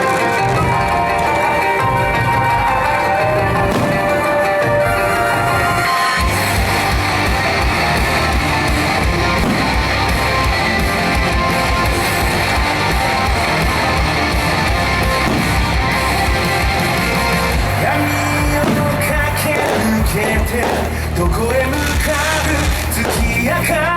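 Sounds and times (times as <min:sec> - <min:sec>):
guitar-led band music: 0:00.0 - 0:23.9.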